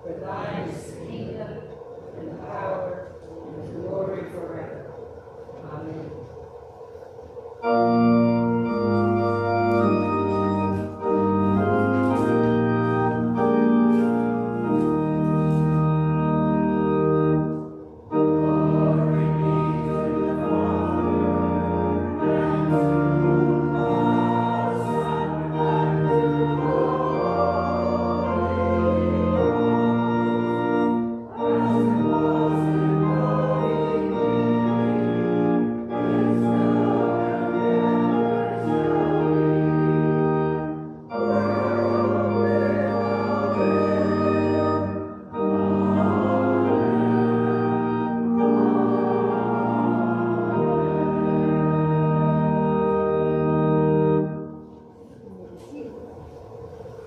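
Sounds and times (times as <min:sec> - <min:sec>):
church organ playing chords: 0:00.0 - 0:57.0.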